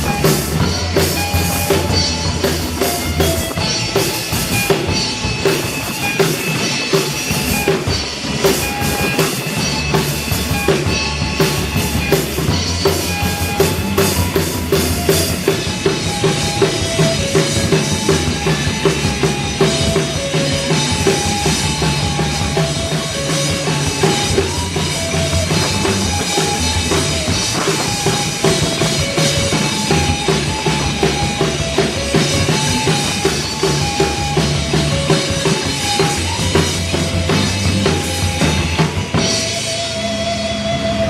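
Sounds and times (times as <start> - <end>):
bass drum and snare: 0.0 - 40.0
live band playing: 0.0 - 41.0.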